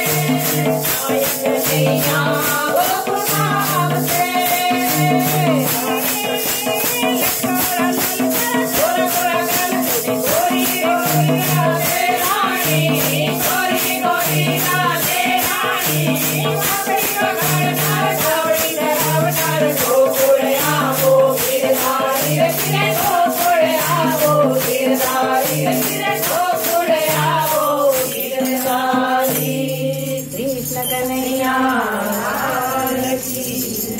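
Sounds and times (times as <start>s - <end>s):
women singing together: 0.0s - 33.9s
wooden clappers with jingles: 0.0s - 33.9s.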